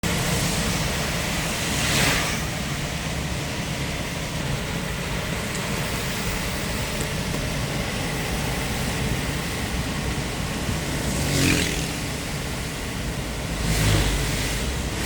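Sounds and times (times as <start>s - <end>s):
rain and tyre spray: 0.0s - 15.0s
truck engine hum: 0.0s - 15.0s.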